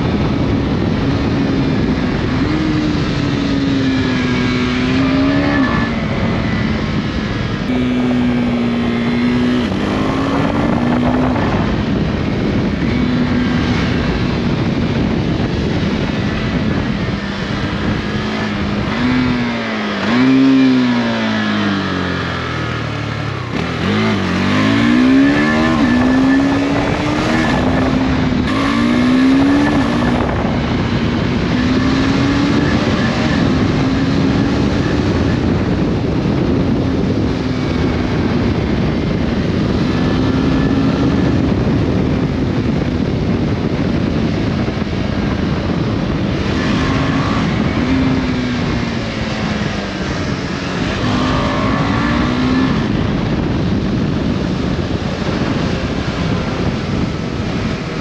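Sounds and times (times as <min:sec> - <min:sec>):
motorcycle engine revving: 0:00.0 - 0:58.0
wind on microphone: 0:00.0 - 0:58.0.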